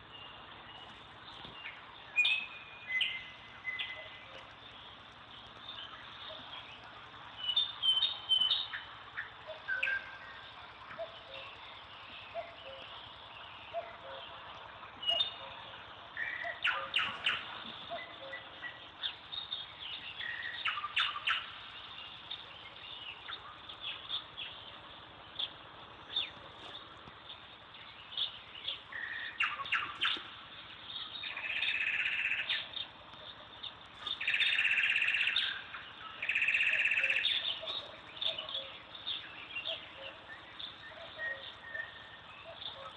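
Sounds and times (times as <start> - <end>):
birds chirping and trilling: 0.0 - 42.9
faint steady hiss: 0.0 - 42.9.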